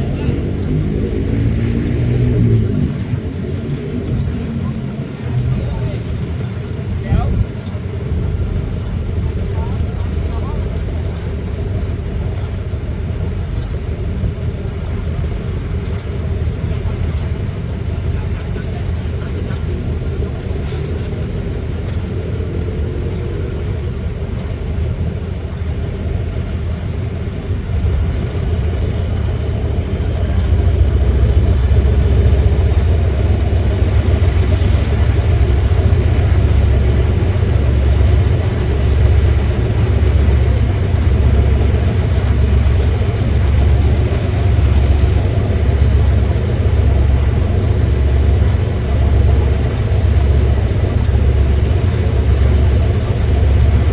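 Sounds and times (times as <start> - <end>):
locomotive engine rumbling: 0.0 - 53.9.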